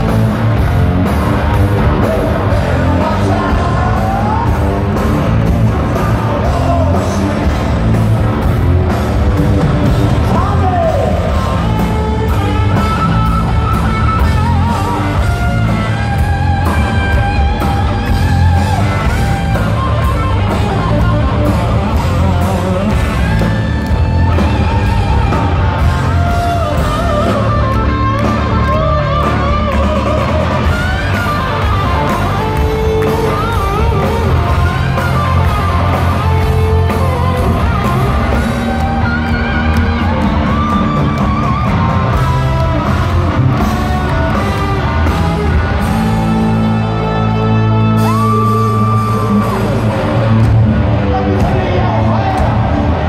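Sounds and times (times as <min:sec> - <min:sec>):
lead electric guitar: 0:00.0 - 0:53.0
live hard rock band: 0:00.0 - 0:53.0.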